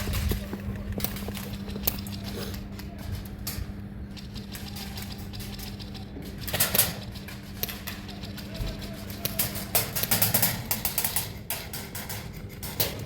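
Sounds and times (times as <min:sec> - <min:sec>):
clicks and rattles: 0:00.0 - 0:13.0
steady low hum: 0:00.0 - 0:13.0.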